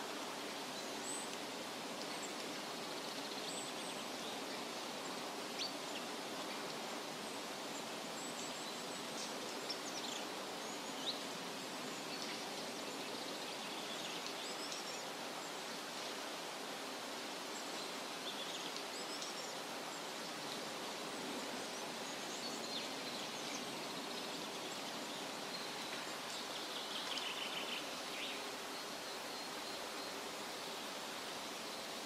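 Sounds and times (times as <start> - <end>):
outdoor background hiss: 0.0 - 32.0.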